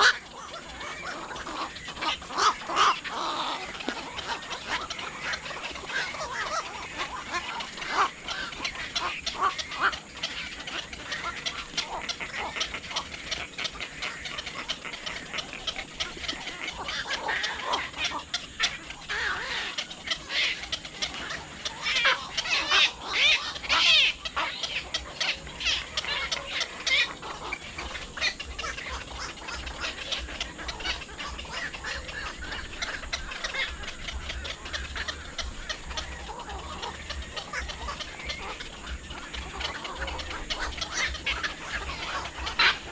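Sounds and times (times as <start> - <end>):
flock of birds calling: 0.0 - 42.9.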